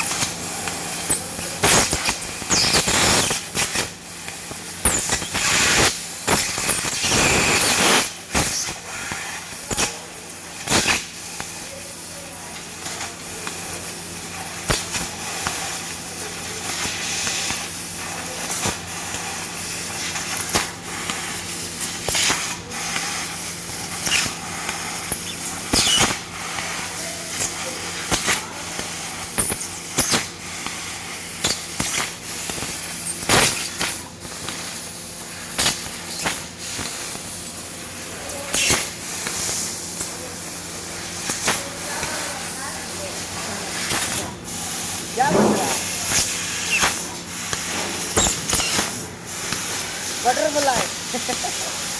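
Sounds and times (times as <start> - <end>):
laser cutter hissing: 0.0 - 51.9.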